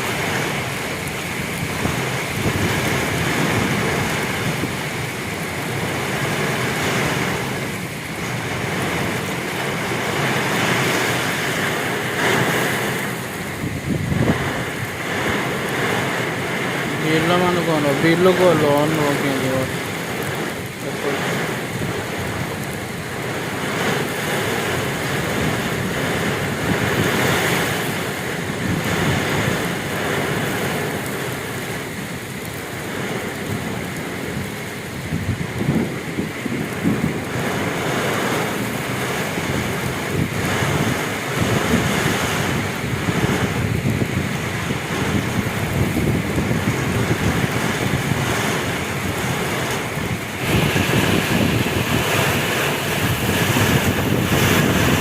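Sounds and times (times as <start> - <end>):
heavy rain pouring: 0.0 - 55.0
wind buffeting microphone: 0.0 - 55.0.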